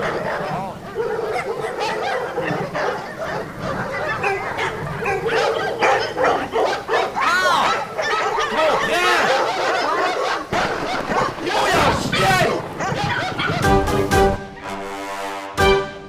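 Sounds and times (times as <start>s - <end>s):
dogs yapping and whining: 0.0s - 14.1s.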